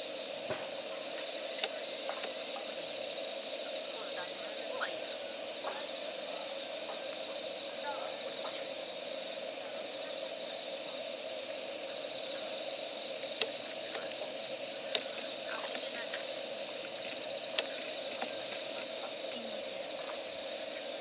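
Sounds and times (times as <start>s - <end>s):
campfire crackling and popping: 0.0s - 21.0s
insects chirring: 0.0s - 21.0s.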